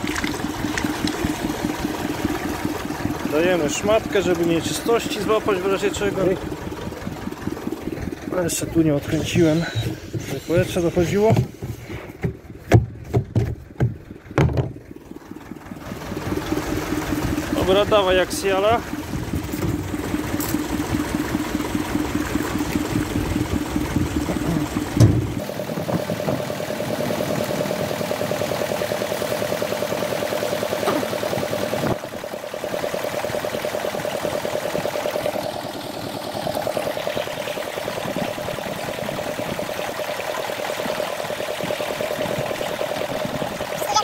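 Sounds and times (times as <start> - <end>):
water gushing from a hose: 0.0 - 11.7, 15.7 - 44.0
engine running: 0.0 - 44.0.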